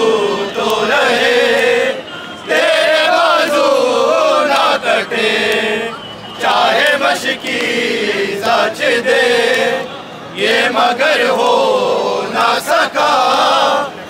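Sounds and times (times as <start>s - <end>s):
men chanting a lament: 0.0s - 14.0s.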